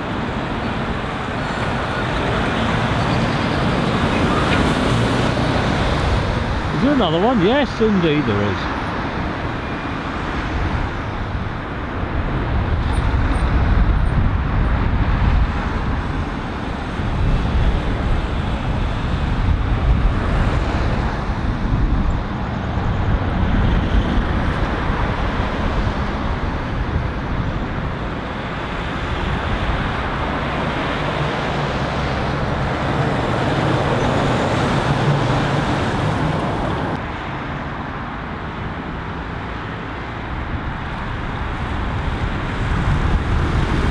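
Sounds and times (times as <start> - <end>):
road traffic passing: 0.0 - 43.9.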